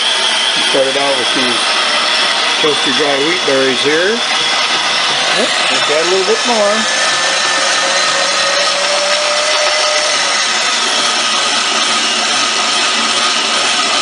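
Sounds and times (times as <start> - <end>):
grain mill grinding: 0.0 - 14.0.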